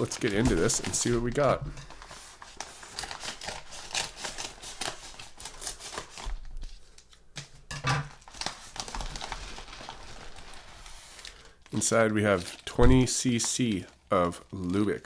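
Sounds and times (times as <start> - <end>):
paper envelope crinkling: 0.0 - 7.2, 8.1 - 15.0.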